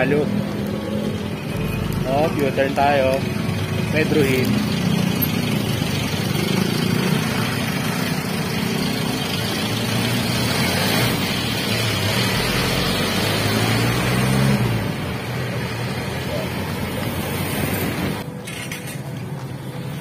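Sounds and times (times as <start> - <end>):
steady road noise: 0.0 - 20.0
vehicle engines running: 0.0 - 20.0.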